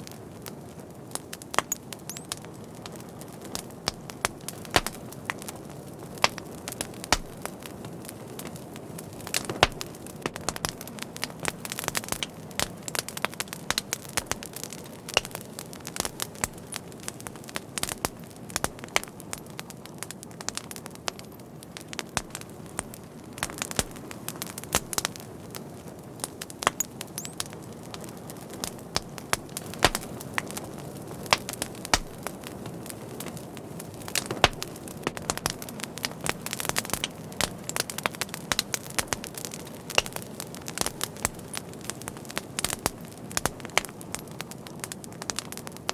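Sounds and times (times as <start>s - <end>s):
fire crackling and popping: 0.0s - 45.9s
low rush of flames: 0.0s - 45.9s.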